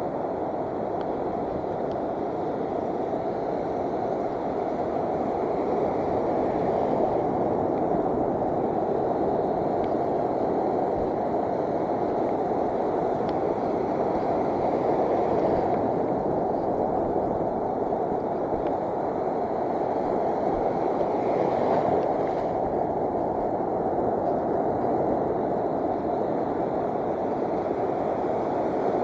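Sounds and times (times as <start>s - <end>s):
breaking surf: 0.0s - 29.0s
wind on microphone: 0.0s - 29.0s.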